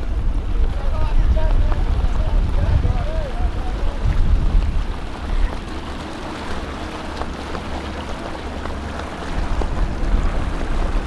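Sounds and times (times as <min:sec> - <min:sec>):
outboard motor idling: 0:00.0 - 0:11.0
water sounds: 0:00.0 - 0:11.0.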